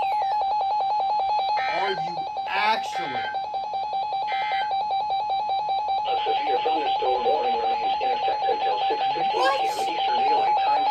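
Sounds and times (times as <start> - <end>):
rapidly pulsing electronic tone: 0.0 - 10.9.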